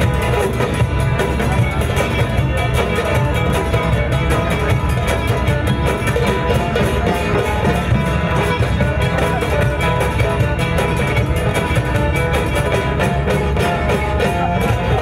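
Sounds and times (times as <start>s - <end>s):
hand percussion beat: 0.0s - 15.0s
plucked string instrument: 0.0s - 15.0s.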